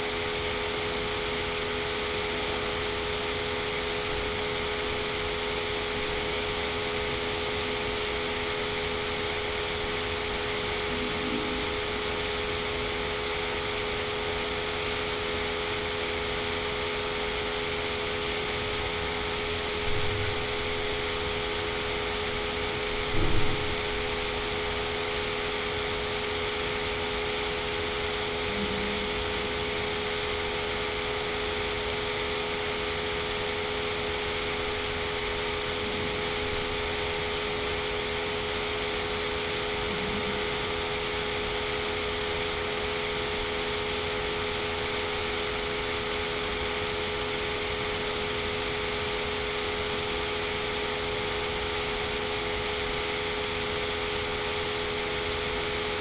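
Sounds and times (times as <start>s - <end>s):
background hum and hiss: 0.0s - 56.0s.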